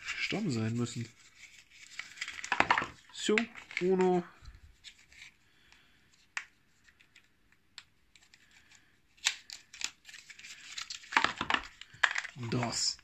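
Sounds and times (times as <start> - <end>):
plastic packaging clicks and rustles: 1.5 - 13.0.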